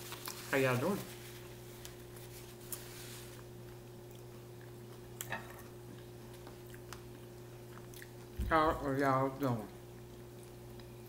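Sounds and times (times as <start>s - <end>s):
chewing crunchy taco: 0.0s - 0.5s, 1.4s - 8.4s, 9.3s - 11.0s.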